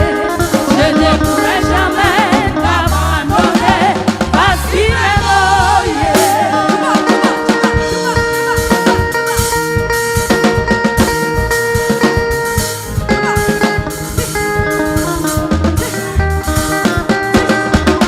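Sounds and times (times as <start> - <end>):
drum kit beat: 0.0 - 18.0
guitar: 0.0 - 18.0.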